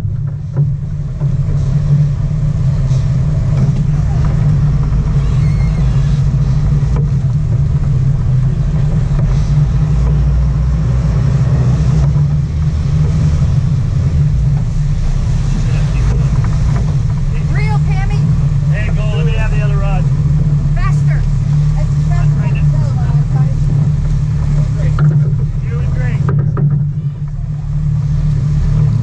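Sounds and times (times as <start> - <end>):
boat engines droning: 0.0 - 29.0
water wash behind boat: 0.0 - 29.0.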